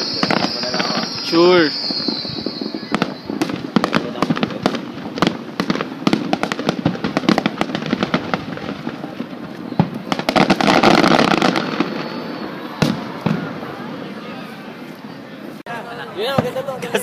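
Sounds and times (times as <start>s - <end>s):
fireworks bangs and crackles: 0.0s - 14.9s, 16.2s - 17.0s.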